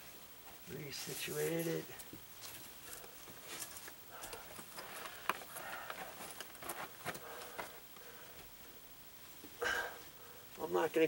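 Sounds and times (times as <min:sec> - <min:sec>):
insulation rustling and scraping: 0:00.0 - 0:09.6
faint crackles and clicks: 0:00.4 - 0:09.6.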